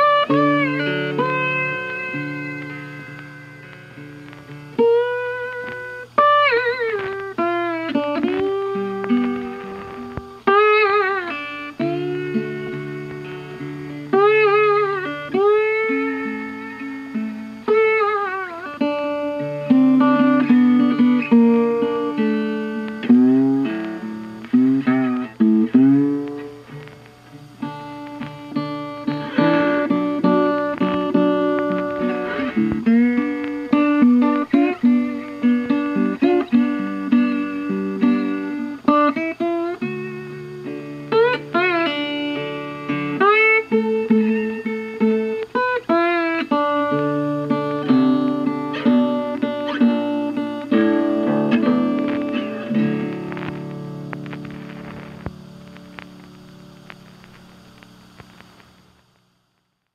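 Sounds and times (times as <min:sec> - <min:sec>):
plucked string instrumental music: 0:00.0 - 0:57.9.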